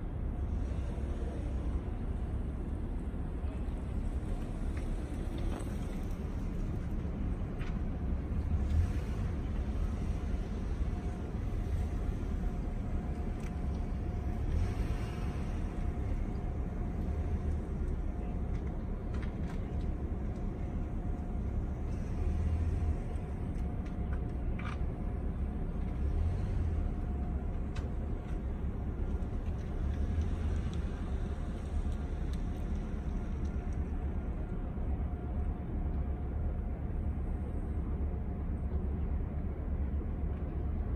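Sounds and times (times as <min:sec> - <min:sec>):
faint steady hum: 0:00.0 - 0:40.9
low harbour rumble: 0:00.0 - 0:40.9.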